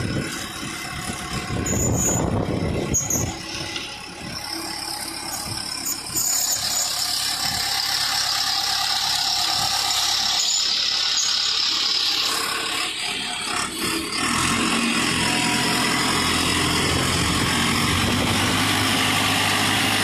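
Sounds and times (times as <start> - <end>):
concrete mixer running: 0.0 - 20.0
high-pitched squeal: 0.0 - 20.0.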